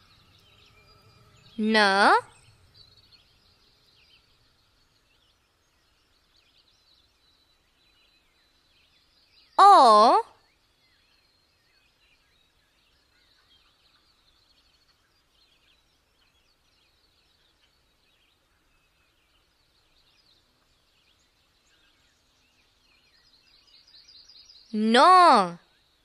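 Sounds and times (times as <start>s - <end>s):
faint bird chirping: 0.0s - 26.0s.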